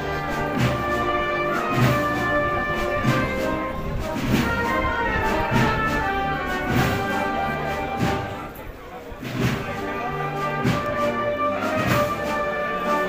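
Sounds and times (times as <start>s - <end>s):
slow regular drum beat: 0.0s - 8.6s, 9.2s - 12.6s
brass holding long notes: 0.0s - 13.0s
wind band playing: 0.0s - 13.0s.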